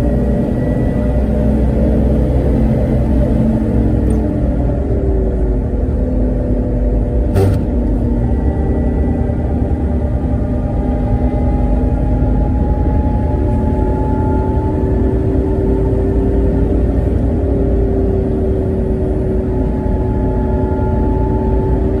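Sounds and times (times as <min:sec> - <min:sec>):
thin rising whine: 0:00.0 - 0:16.4, 0:18.0 - 0:22.0
car engine and road rumble: 0:00.0 - 0:22.0.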